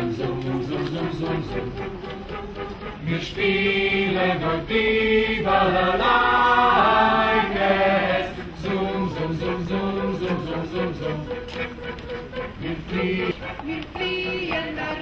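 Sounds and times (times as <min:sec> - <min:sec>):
choir singing chant-like melody: 0:00.0 - 0:15.0.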